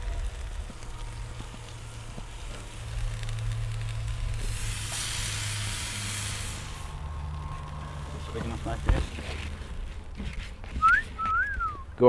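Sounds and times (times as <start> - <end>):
chicken sizzling on a grill: 0.0 - 9.9
steady low hum: 0.0 - 12.0.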